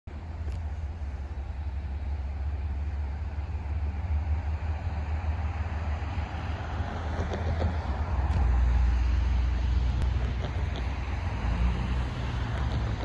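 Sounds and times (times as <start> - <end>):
freight train rumbling: 0.1 - 13.0.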